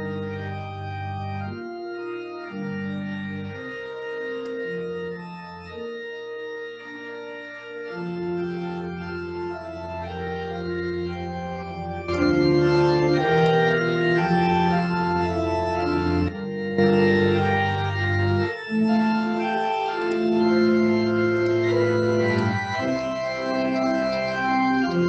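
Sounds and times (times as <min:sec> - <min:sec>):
deep organ bass line: 0:00.0 - 0:25.0
organ playing slow held chords: 0:00.0 - 0:25.0.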